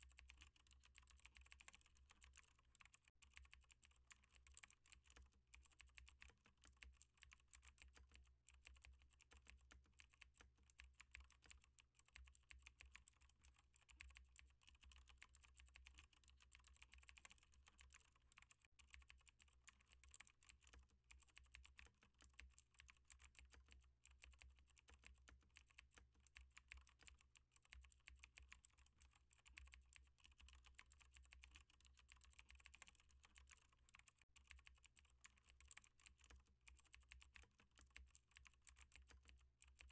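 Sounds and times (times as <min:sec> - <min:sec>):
typing on a keyboard: 0:00.0 - 0:39.9.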